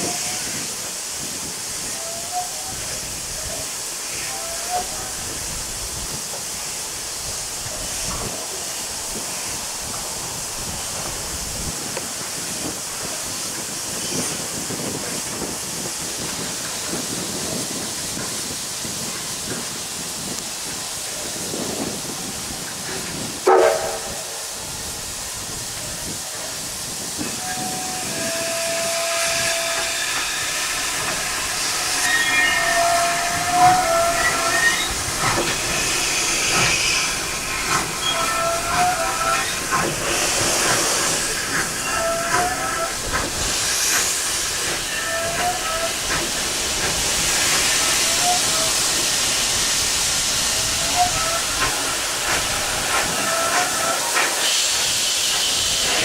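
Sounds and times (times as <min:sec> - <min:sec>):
steam train hissing: 0:00.0 - 0:56.0.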